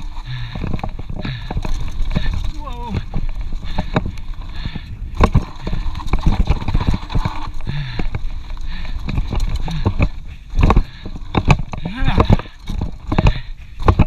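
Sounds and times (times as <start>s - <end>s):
bike knocks and rattles: 0.0s - 14.0s.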